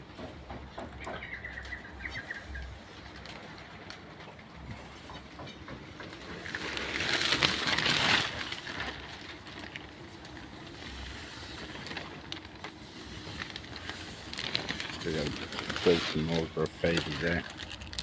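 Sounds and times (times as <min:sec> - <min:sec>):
faint clicks and rustles: 0:00.2 - 0:18.0.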